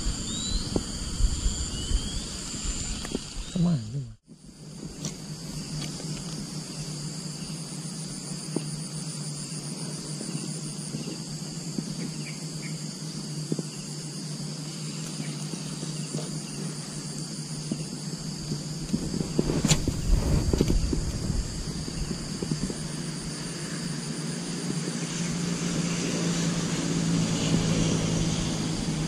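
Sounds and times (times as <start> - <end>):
insect pulsing trill: 0.0 - 29.0
insects buzzing: 0.0 - 29.0.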